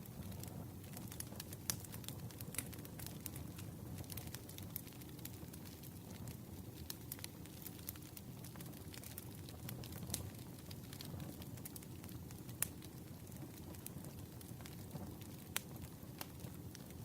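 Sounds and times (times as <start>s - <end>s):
burning wood crackling and popping: 0.0s - 17.0s
campfire flames rushing: 0.0s - 17.0s.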